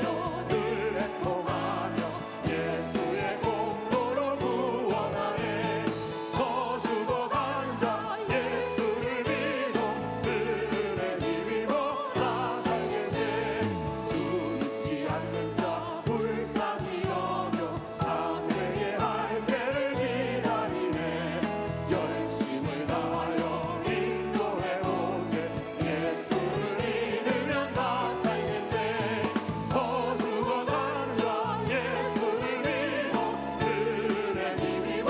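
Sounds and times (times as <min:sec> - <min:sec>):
choir singing gospel music: 0:00.0 - 0:35.0
instrumental accompaniment with beat: 0:00.0 - 0:35.0.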